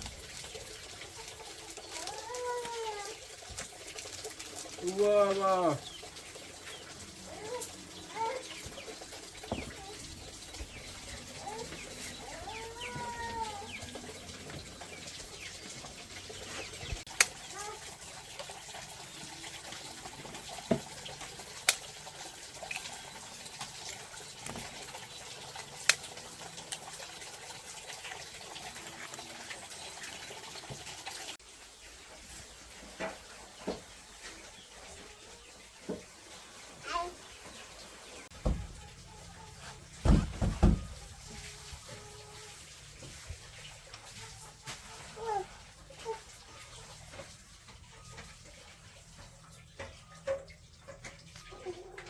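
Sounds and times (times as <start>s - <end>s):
chickens clucking: 0.0s - 31.2s, 31.8s - 52.0s.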